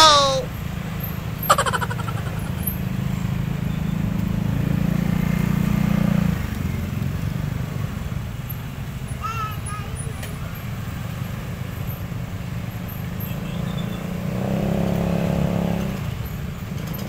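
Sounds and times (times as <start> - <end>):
motorcycles and cars passing: 0.5 - 17.0.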